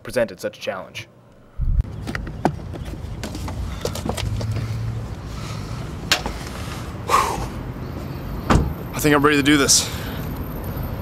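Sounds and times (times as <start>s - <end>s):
car engine and road rumble: 1.7s - 11.0s.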